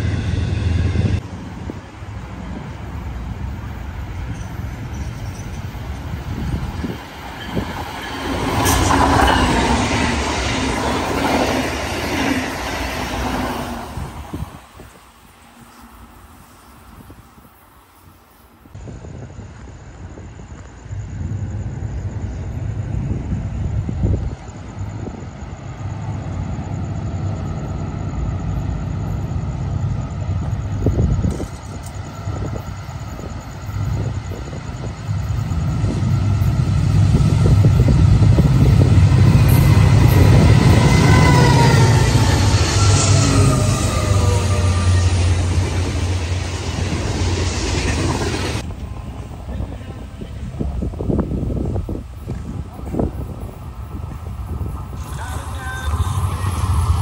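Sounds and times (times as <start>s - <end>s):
diesel locomotive rumble: 0.0s - 16.0s, 18.7s - 57.0s
train wheels on rails: 0.0s - 57.0s
wind gusts on microphone: 0.0s - 57.0s.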